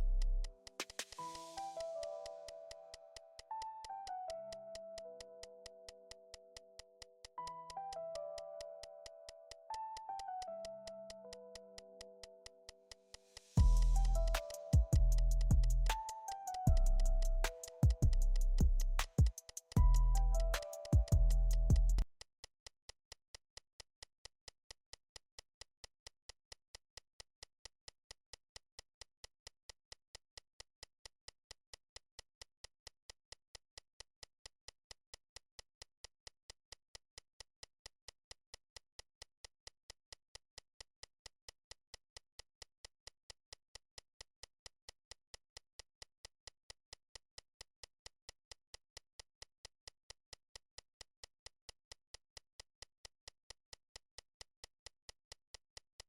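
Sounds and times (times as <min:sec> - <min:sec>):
faint steady ticking: 0:00.3 - 0:56.0.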